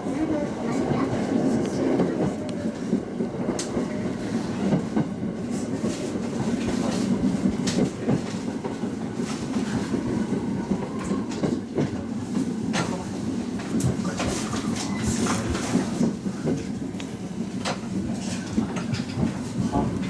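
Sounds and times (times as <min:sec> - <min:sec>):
rail clacks: 0:00.0 - 0:20.0
train wheels rumbling: 0:00.0 - 0:20.0.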